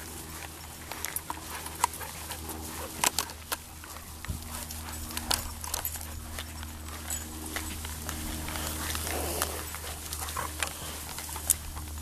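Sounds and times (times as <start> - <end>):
dog paws clicking: 0.0 - 12.0.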